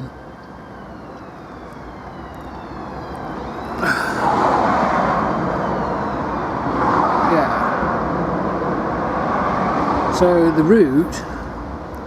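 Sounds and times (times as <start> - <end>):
passing traffic rushing: 0.0 - 12.0
vehicle approaching: 0.0 - 12.0.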